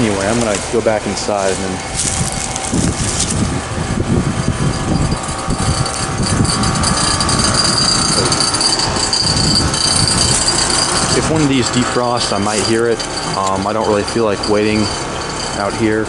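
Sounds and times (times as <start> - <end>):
heat pump fan and compressor hum: 0.0 - 16.0
high steady whine: 0.0 - 16.0
low rumble: 0.0 - 16.0.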